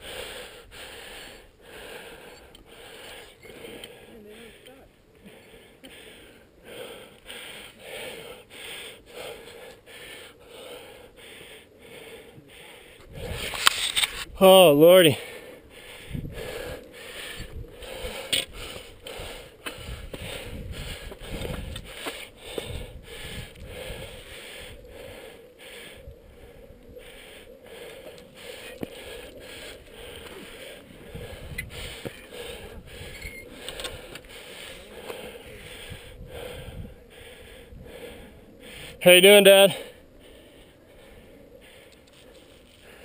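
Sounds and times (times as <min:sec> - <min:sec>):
heavy breathing: 0:00.0 - 0:14.2, 0:15.1 - 0:43.0.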